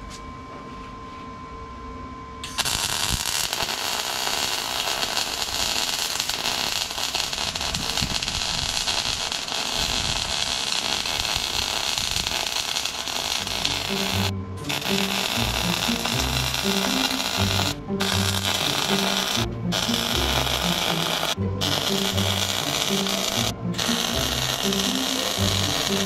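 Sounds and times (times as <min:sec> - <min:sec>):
welding arc crackling: 0:02.4 - 0:26.0.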